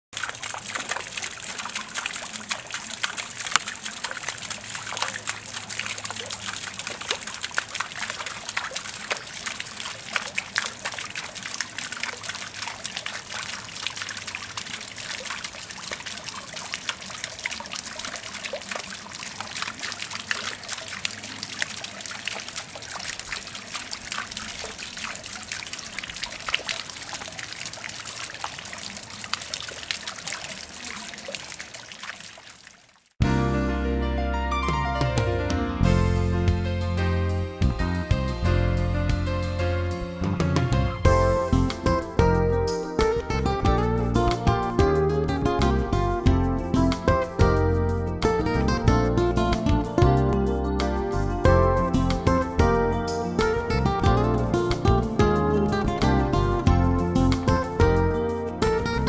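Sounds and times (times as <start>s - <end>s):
fountain water trickling into pond: 0.1s - 33.2s, 41.1s - 59.0s.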